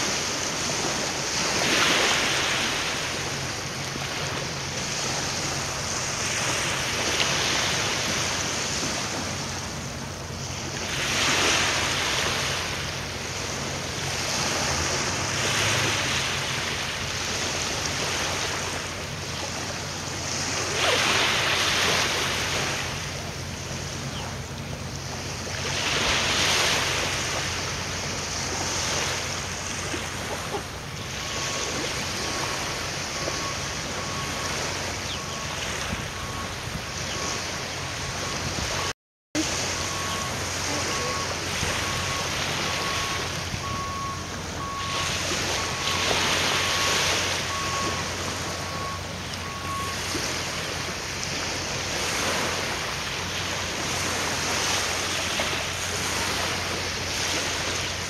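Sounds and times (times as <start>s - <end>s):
small waves washing in: 0.0s - 58.0s.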